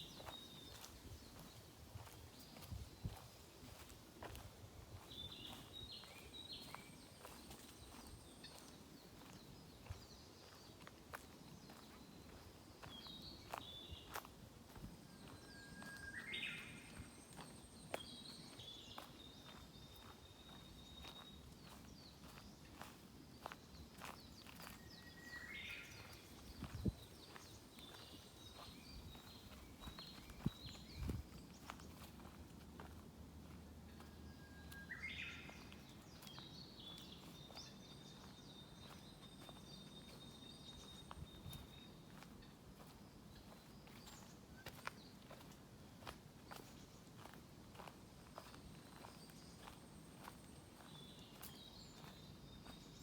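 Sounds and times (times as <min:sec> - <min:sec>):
faint songbird song: 0:00.0 - 0:53.0
footsteps on forest path: 0:00.0 - 0:53.0.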